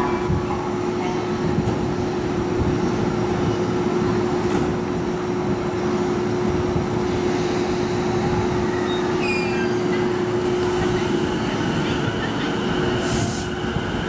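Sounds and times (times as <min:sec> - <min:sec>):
electric train humming: 0:01.8 - 0:14.0.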